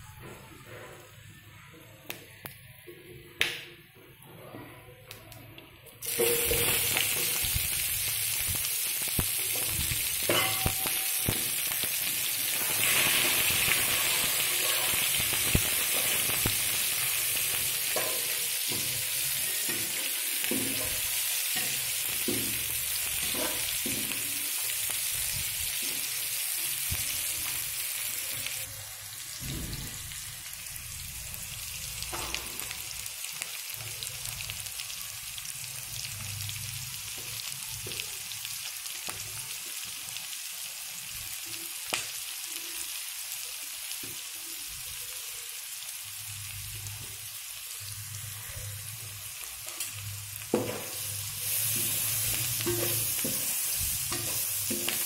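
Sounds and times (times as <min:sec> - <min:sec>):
onions sizzling in oil: 0:06.0 - 0:55.0.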